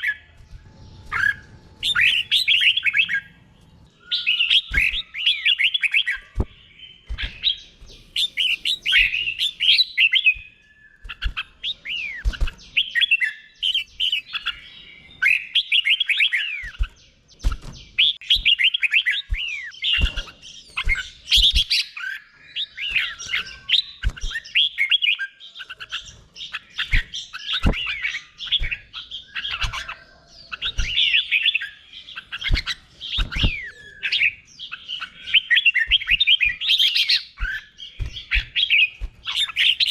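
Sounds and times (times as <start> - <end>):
bird singing chirpy phrases: 0.0 - 39.9.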